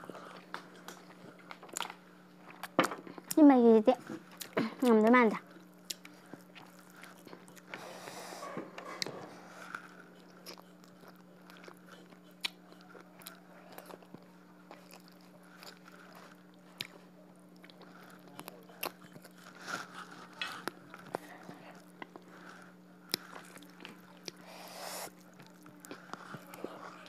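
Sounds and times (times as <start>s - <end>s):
person chewing food: 0.0s - 3.4s, 4.2s - 27.0s
steady low hum: 0.0s - 27.0s.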